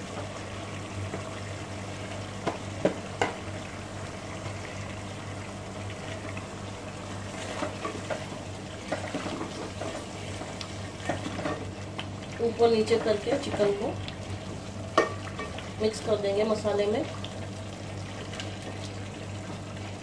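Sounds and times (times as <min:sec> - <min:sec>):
sauce sizzling and bubbling in pot: 0:00.0 - 0:20.0.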